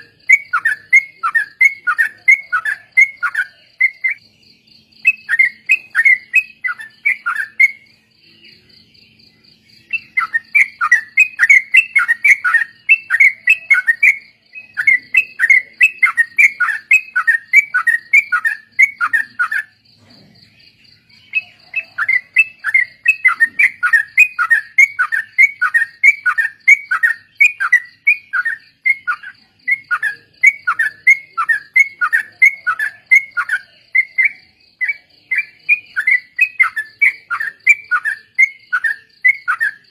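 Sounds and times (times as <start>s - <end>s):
bulbuls chattering song: 0.0s - 39.9s.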